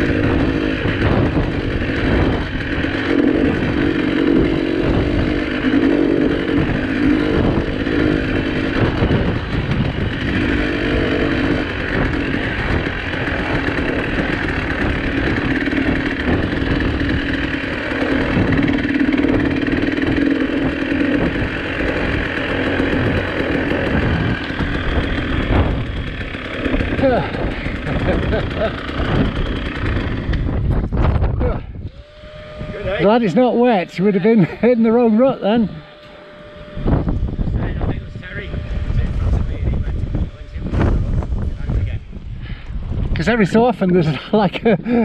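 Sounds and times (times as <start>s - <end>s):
vehicle engine at low speed: 0.0s - 45.0s.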